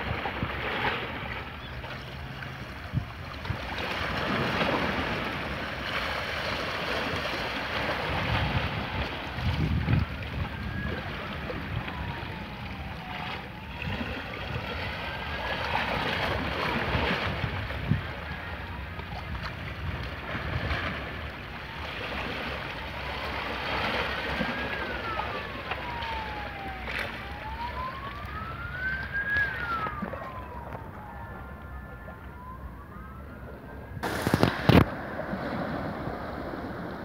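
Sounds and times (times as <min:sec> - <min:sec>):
sea water washing against rocks: 0:00.0 - 0:30.7, 0:34.0 - 0:37.0
wind rumbling on microphone: 0:00.0 - 0:37.0
wailing siren: 0:01.8 - 0:34.9.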